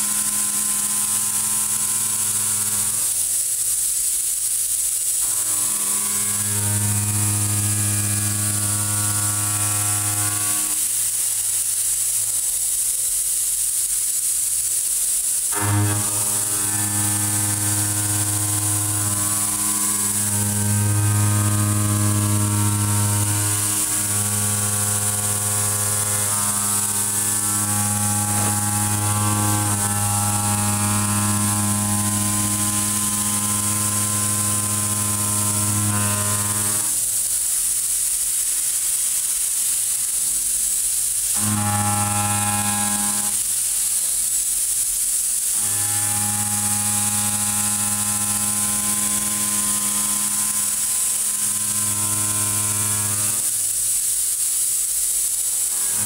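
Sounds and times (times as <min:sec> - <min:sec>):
milling machine cutting steel: 0:00.0 - 0:03.7, 0:05.1 - 0:12.4, 0:15.5 - 0:44.4, 0:45.4 - 0:54.5, 0:55.2 - 0:56.0.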